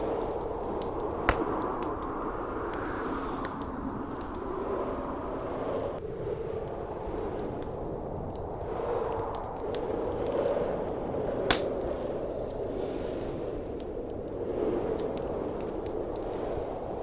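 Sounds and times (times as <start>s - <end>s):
blizzard wind howling: 0.0s - 17.0s
wood fire crackling: 0.0s - 17.0s.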